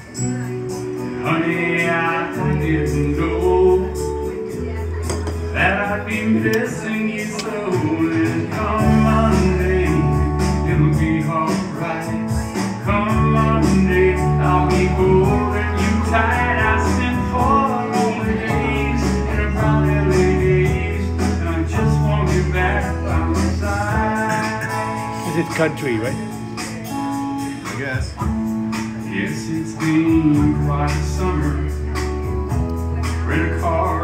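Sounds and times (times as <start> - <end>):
man singing into a microphone: 0.0 - 26.7, 28.8 - 34.0
guitar: 0.0 - 34.0.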